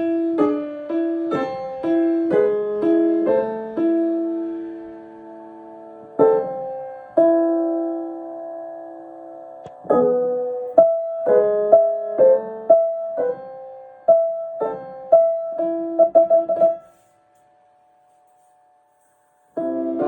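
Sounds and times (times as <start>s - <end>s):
piano chords and notes: 0.0s - 20.0s.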